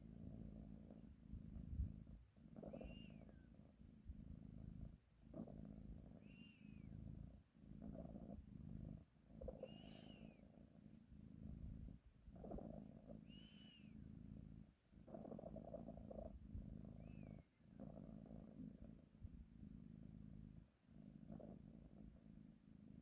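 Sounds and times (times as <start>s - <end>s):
cat purring: 0.0s - 23.0s.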